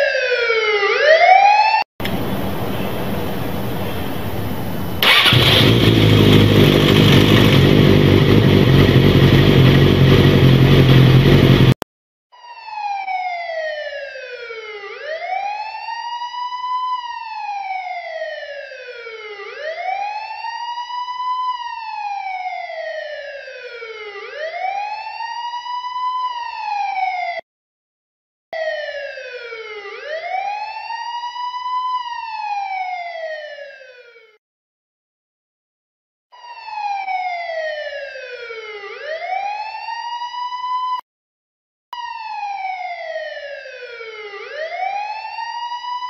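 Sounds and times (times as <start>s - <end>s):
police wail siren: 0.0s - 7.6s, 12.3s - 27.4s, 28.6s - 34.4s, 36.3s - 41.0s, 42.0s - 46.0s.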